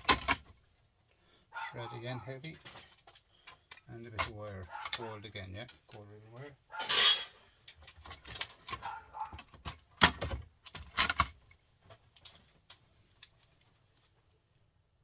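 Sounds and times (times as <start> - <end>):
small parts clicking and clattering: 0.0 - 1.2, 2.4 - 14.4.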